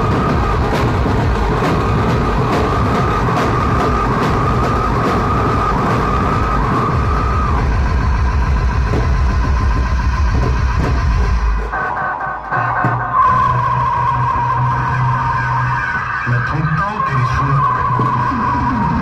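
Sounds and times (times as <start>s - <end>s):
electronic music with pulsing bass: 0.0s - 19.0s.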